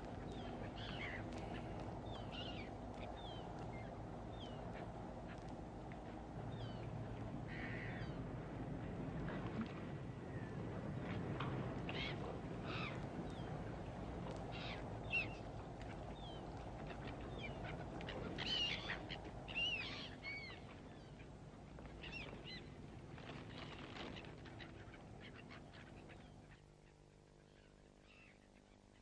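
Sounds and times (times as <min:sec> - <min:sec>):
gulls calling: 0:00.0 - 0:29.0.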